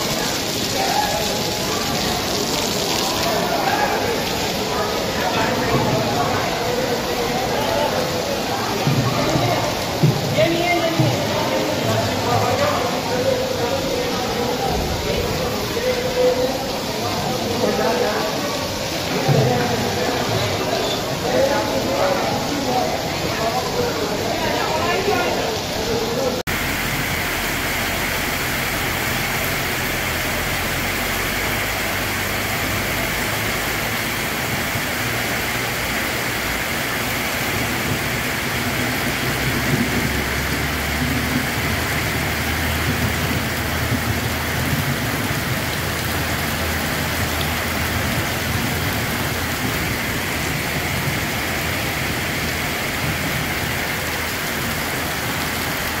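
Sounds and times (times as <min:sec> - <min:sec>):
heavy rain on paving: 0:00.0 - 0:56.0.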